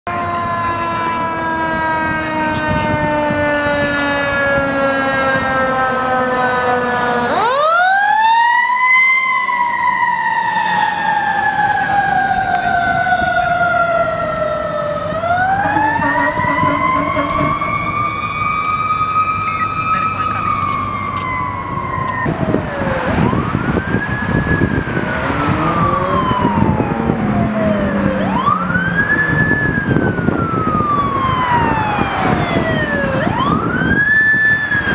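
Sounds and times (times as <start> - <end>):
fire engine sirens wailing: 0.1 - 34.9
traffic and engine noise: 0.1 - 34.9.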